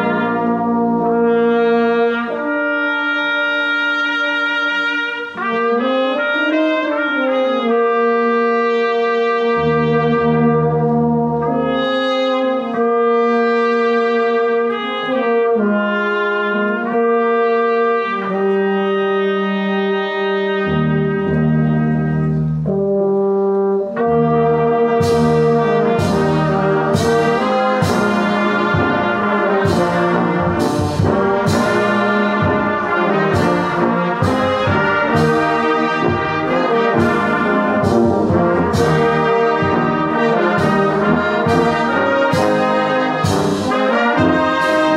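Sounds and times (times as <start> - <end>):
brass band playing a hymn: 0.0 - 44.9
solo trumpet melody: 0.0 - 44.9.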